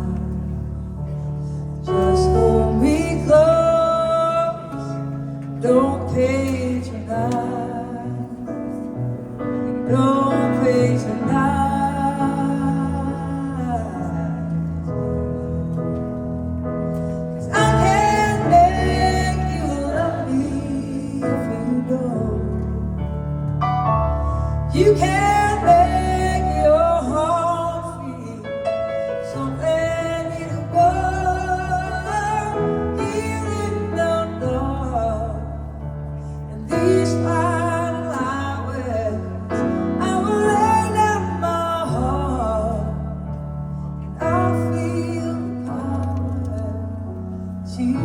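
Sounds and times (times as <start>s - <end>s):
live band playing a ballad: 0.0s - 48.0s
piano: 0.0s - 48.0s.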